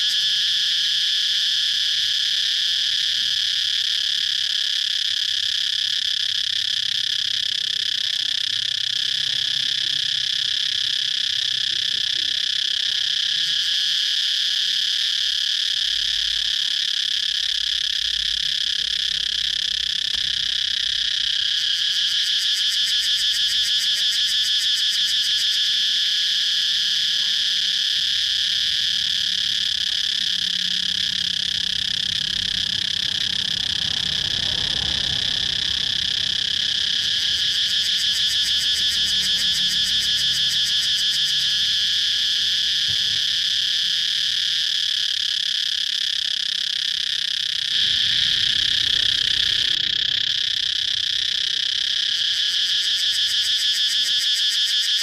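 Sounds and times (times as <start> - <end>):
cicadas droning: 0.0 - 55.0
fast pulsing insect trill: 0.0 - 55.0.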